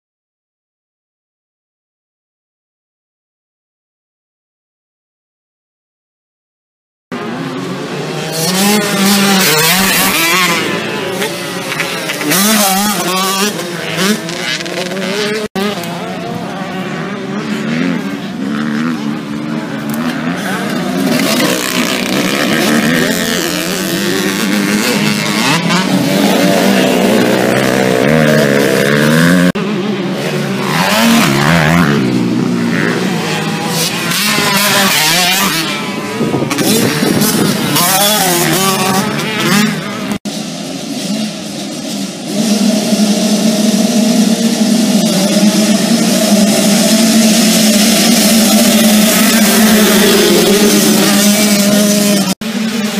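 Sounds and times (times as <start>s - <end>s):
motocross bikes racing: 7.1s - 52.9s.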